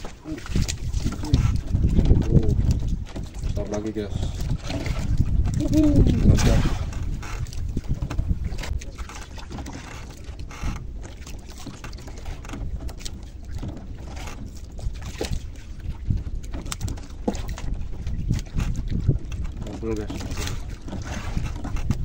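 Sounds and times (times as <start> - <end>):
low wind rumble: 0.0 - 22.0
water lapping against boat: 0.0 - 22.0.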